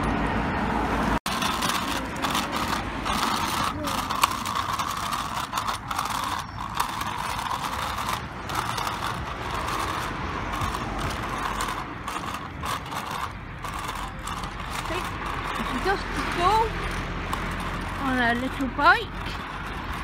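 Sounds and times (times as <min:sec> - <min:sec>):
small bicycle wheels rattling on tarmac: 0:01.3 - 0:20.0.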